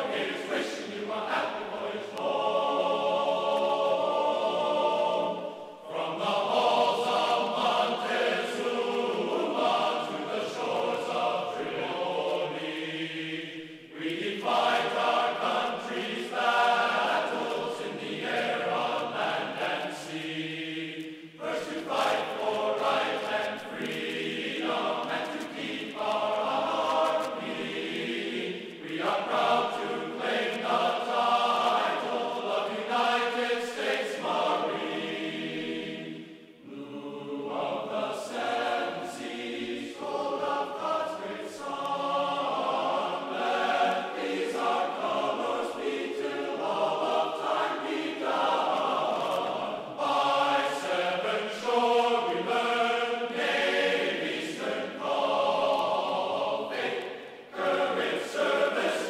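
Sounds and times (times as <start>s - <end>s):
choir singing sustained chords: 0.0s - 59.0s.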